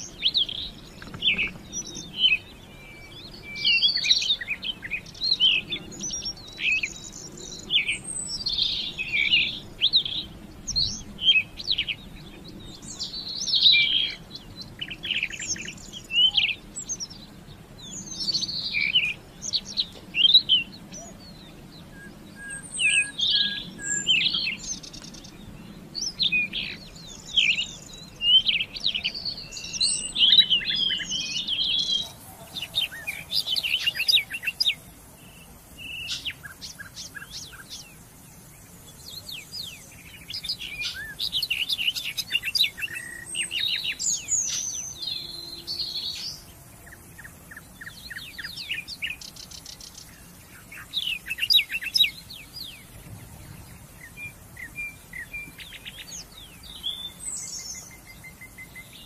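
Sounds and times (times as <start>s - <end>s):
bird singing high phrases: 0.0s - 59.0s
different bird song: 0.0s - 59.0s
faint hiss: 0.0s - 59.0s.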